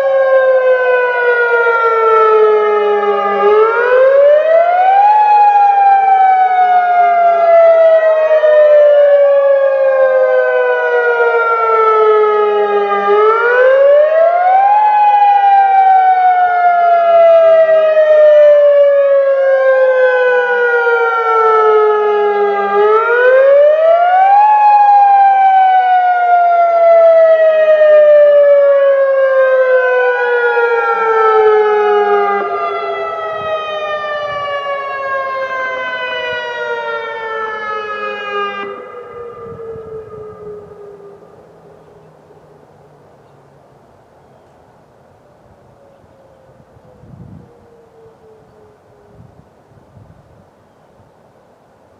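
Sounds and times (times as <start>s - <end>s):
warning sirens rising and falling: 0.0s - 51.4s.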